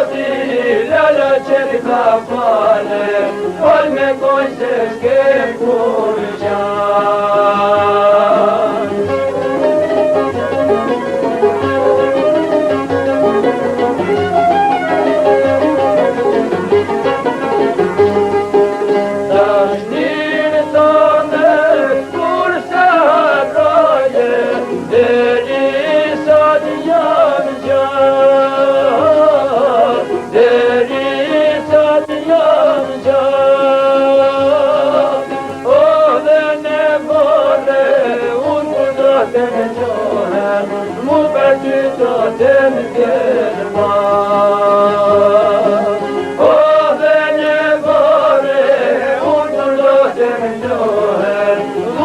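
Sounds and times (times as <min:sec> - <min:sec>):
folk song with ornamented melody: 0:00.0 - 0:52.0
steady musical accompaniment: 0:00.0 - 0:52.0.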